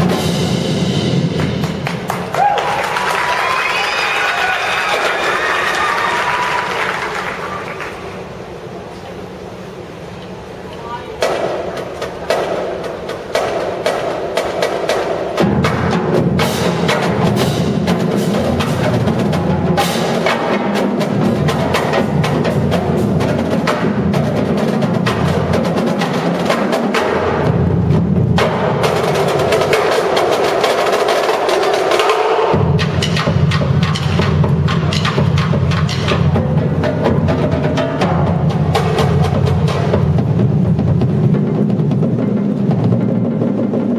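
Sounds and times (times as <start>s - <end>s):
heavy low drums: 0.0s - 3.6s, 8.0s - 43.9s
marching drumline playing: 0.0s - 8.4s, 10.9s - 43.9s.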